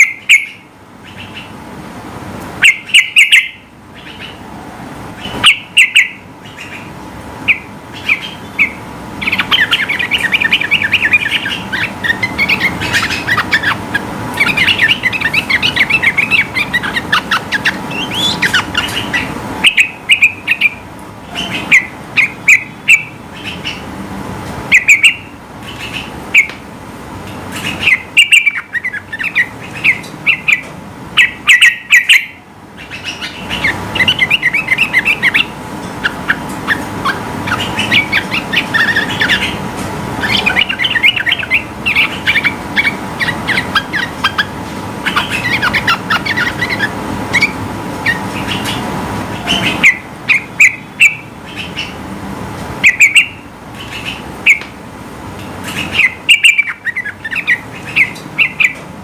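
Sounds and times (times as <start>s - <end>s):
bulbul chattering song: 0.0s - 1.7s, 2.6s - 4.5s, 5.1s - 24.0s, 24.7s - 26.6s, 27.4s - 52.1s, 52.8s - 54.8s, 55.4s - 58.8s.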